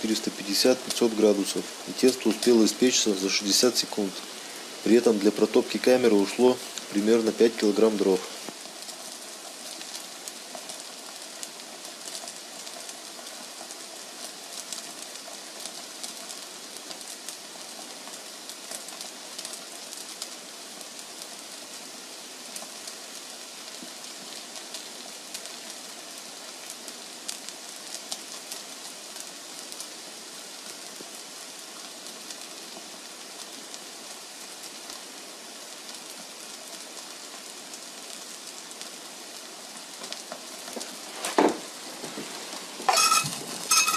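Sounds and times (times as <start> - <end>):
steady hissing: 0.0 - 43.9
wood fire crackles: 0.0 - 43.9.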